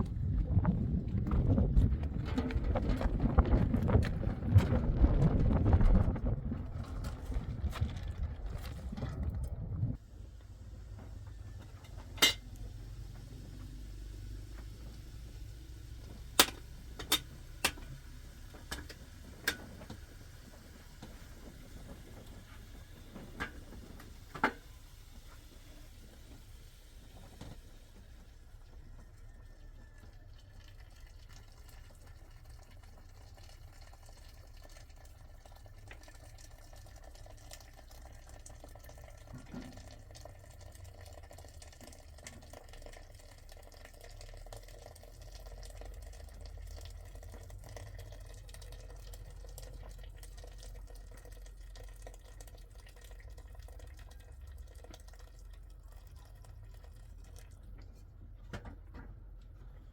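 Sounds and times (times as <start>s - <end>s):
faint trickling water: 0.0s - 59.9s
small clicks and drips: 10.2s - 59.9s.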